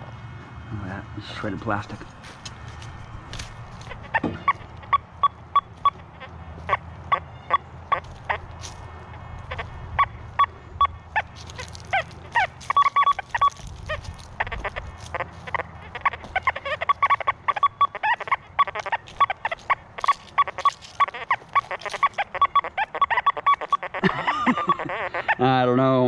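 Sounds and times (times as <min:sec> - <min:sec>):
metal detector chirping beeps: 0:02.4 - 0:25.3.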